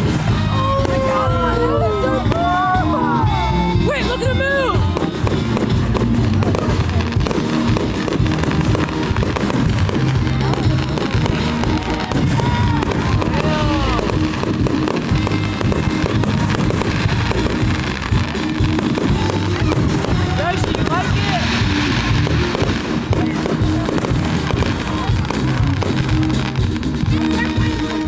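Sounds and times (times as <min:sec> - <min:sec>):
fireworks bursting and crackling: 0:00.0 - 0:28.0
fireworks whistling: 0:00.0 - 0:28.0
music playing: 0:00.0 - 0:28.0.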